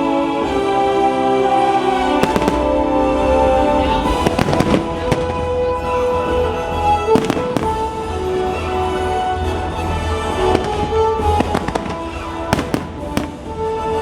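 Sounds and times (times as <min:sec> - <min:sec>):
orchestral music over loudspeakers: 0:00.0 - 0:14.0
fireworks bangs and crackles: 0:02.1 - 0:14.0.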